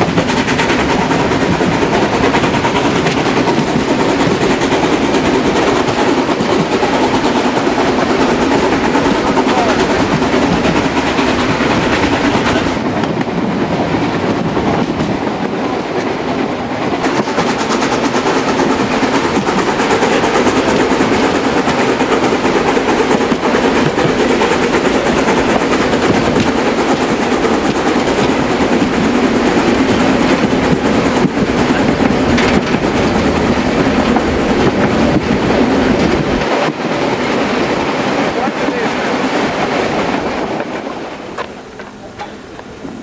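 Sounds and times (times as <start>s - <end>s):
clickety-clack over rail joints: 0.0s - 43.0s
train wheels rumbling: 0.0s - 43.0s.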